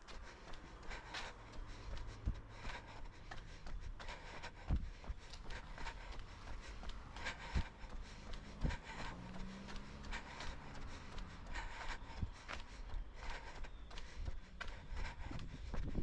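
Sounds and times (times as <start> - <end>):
footsteps jogging on concrete: 0.0 - 16.0.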